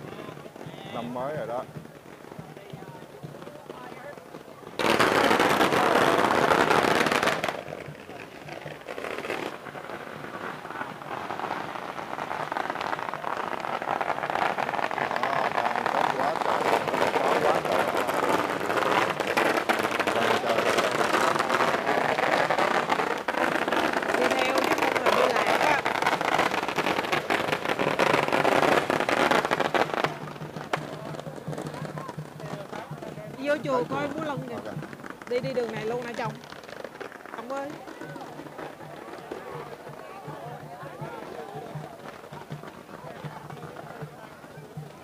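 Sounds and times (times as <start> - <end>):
firecrackers crackling: 0.0 - 45.0.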